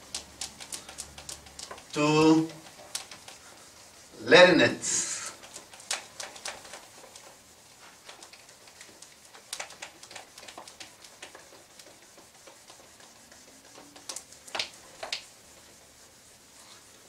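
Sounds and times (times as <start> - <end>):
marker scratching on whiteboard: 0.0 - 17.0.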